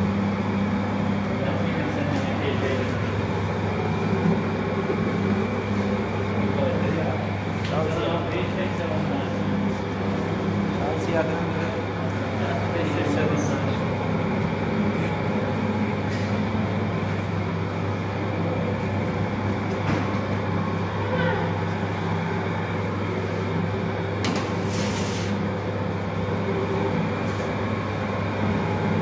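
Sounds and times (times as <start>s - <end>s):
machinery hum and rumble: 0.0s - 29.0s.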